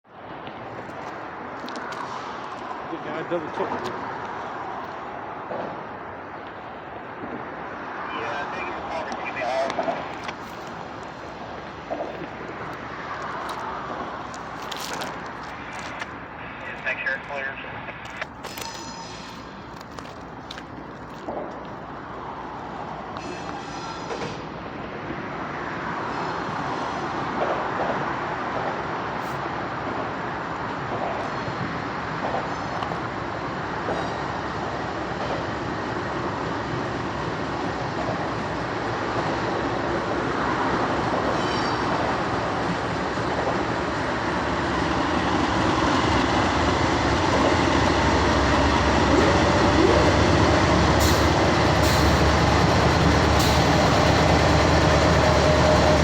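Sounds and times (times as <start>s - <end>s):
train wheels on rails: 0.2s - 16.8s, 17.8s - 56.0s.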